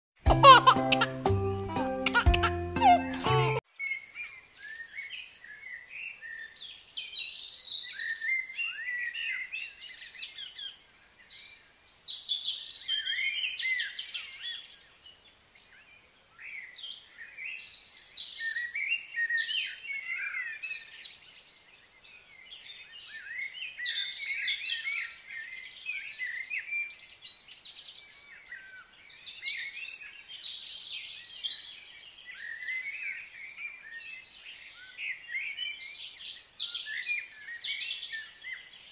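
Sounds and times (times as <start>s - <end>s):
songbirds chirping and singing: 0.4s - 38.9s.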